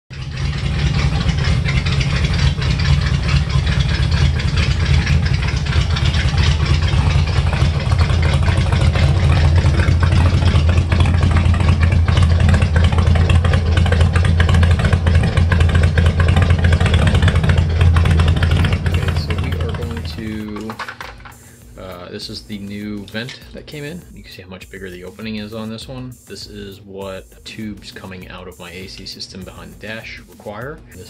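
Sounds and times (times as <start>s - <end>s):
car engine idling: 0.1s - 31.0s.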